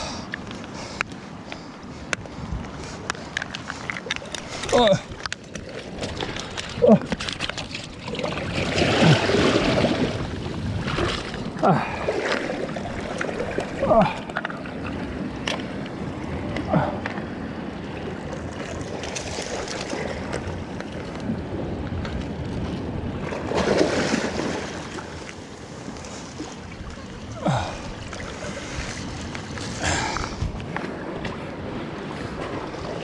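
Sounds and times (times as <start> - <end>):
ocean waves washing: 0.0 - 33.0
wind buffeting microphone: 0.0 - 33.0.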